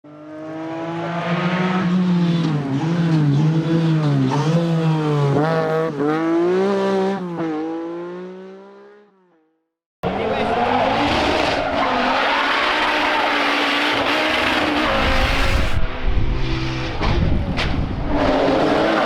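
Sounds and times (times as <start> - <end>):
rally car engine revving: 0.1 - 9.0, 10.0 - 19.0.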